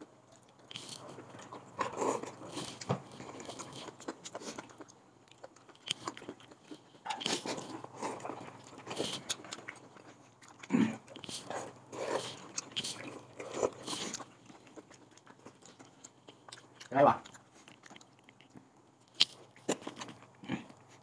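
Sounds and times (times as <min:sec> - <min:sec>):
chewing and crunching food: 0:00.0 - 0:21.0.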